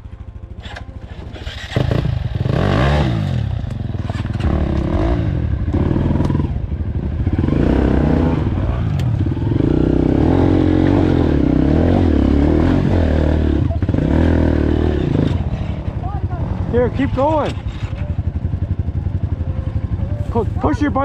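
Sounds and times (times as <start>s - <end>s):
dirt bike engine revving: 0.6s - 20.8s.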